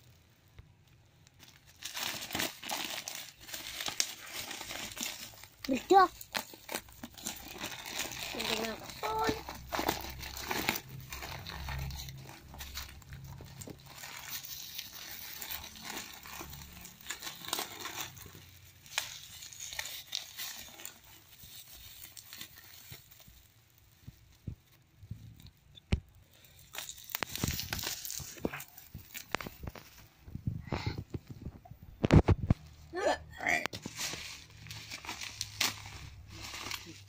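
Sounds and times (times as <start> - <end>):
bubble wrap crinkling: 0.8 - 32.9, 33.7 - 37.0.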